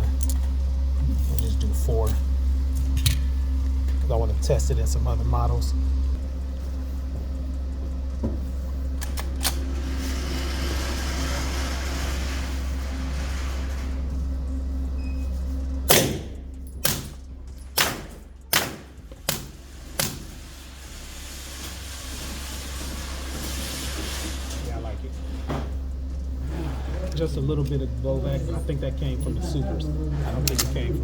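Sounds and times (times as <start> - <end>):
background hum: 0.0 - 31.0.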